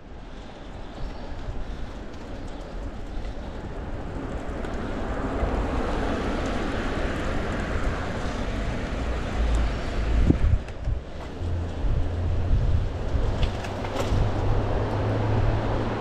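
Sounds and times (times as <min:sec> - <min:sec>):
wind rumble on microphone: 0:00.0 - 0:16.0
car passing: 0:02.6 - 0:16.0.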